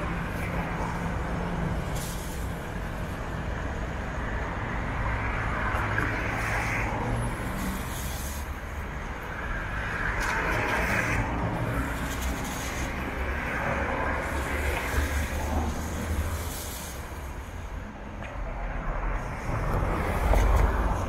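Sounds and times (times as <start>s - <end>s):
bus engines droning: 0.0s - 21.0s.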